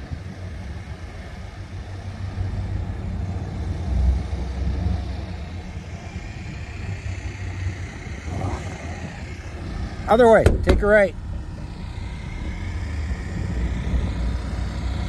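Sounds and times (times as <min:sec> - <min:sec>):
pickup truck engine running: 0:00.0 - 0:15.0
tyres rolling on road: 0:00.0 - 0:15.0.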